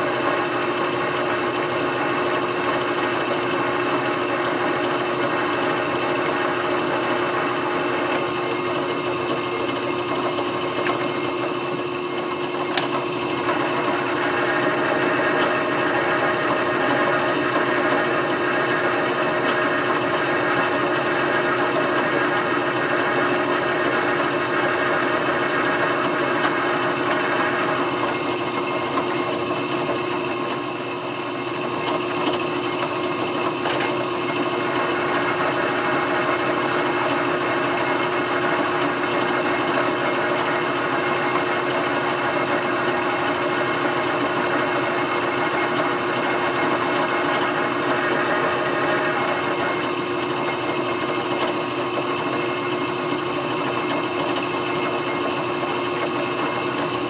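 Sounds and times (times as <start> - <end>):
lathe tool cutting threads: 0.0 - 57.0
metal lathe whirring with gear whine: 0.0 - 57.0.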